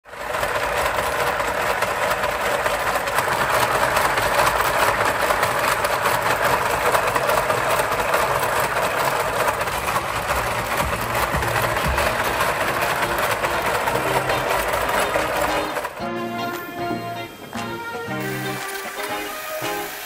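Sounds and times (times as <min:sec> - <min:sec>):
braiding machine rattling ticks: 0:00.1 - 0:16.8, 0:17.4 - 0:20.0.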